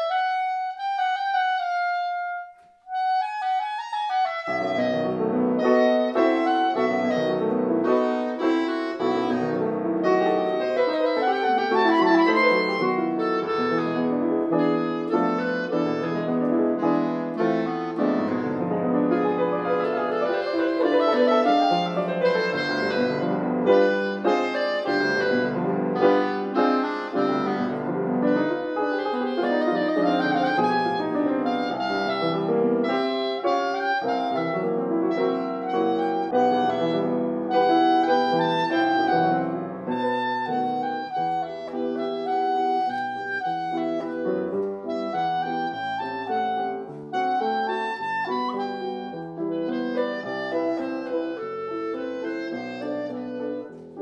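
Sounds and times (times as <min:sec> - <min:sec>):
clarinet and piano sonata: 0:00.0 - 0:54.0.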